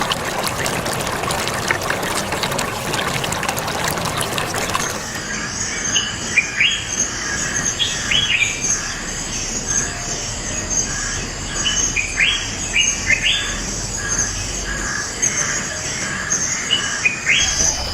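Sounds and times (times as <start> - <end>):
birds calling: 0.0 - 17.9.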